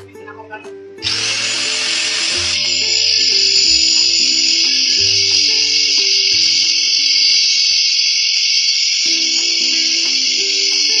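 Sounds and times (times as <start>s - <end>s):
background music melody: 0.0s - 8.1s, 9.0s - 11.0s
angle grinder grinding steel: 1.0s - 11.0s.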